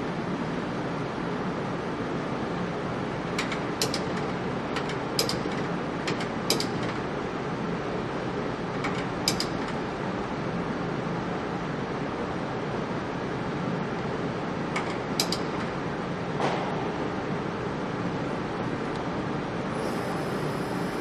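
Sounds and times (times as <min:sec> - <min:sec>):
workshop machinery running: 0:00.0 - 0:21.0.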